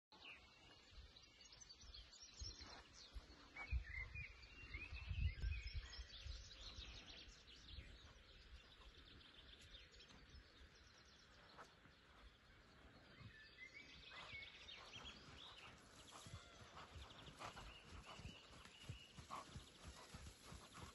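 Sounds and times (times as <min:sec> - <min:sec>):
birds chirping: 0:00.1 - 0:20.9.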